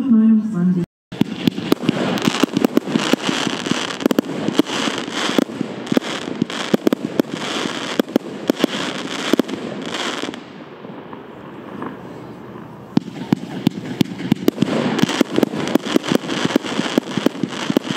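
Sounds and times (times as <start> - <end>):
firework battery bangs: 1.1 - 11.2, 13.0 - 17.9.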